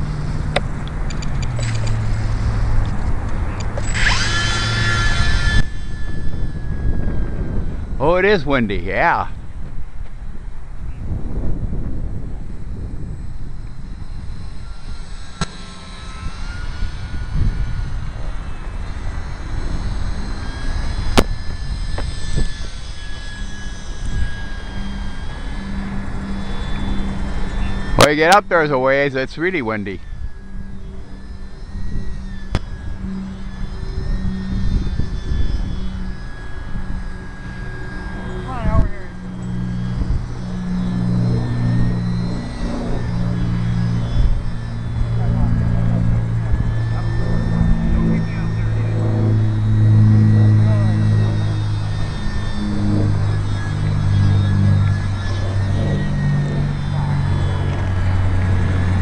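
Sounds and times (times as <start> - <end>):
small electric motor whine: 0.0 - 59.0
wind buffeting microphone: 0.0 - 59.0.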